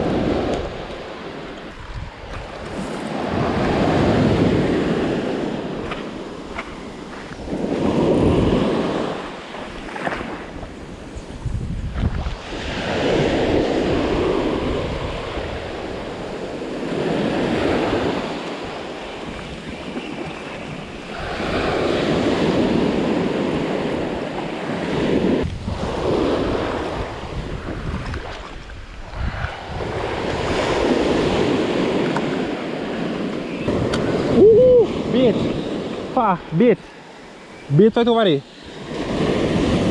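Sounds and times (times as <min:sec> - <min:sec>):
wind buffeting microphone: 0:00.0 - 0:36.5, 0:38.7 - 0:39.9
waves breaking on a beach: 0:00.0 - 0:39.9.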